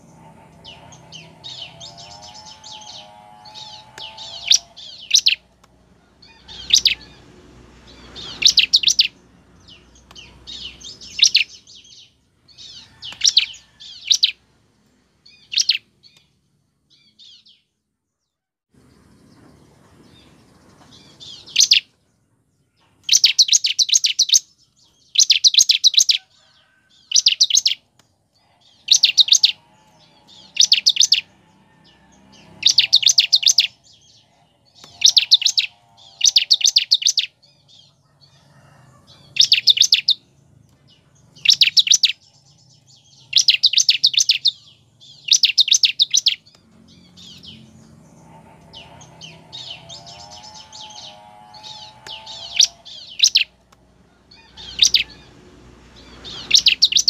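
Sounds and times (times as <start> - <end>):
bird singing chattering notes: 0.0 - 7.0, 7.8 - 14.4, 15.2 - 17.6, 19.0 - 21.9, 22.9 - 26.2, 27.0 - 31.3, 32.4 - 37.9, 39.2 - 53.8, 56.0 - 57.0.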